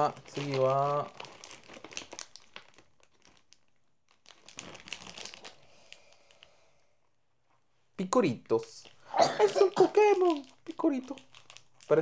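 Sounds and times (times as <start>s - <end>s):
plastic candy bag crinkling: 0.0s - 6.9s, 8.6s - 12.0s.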